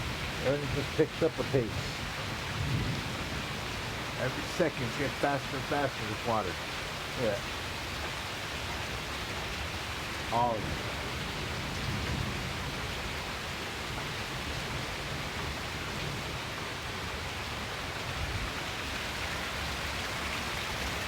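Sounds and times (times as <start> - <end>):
heavy rain downpour: 0.0 - 21.0.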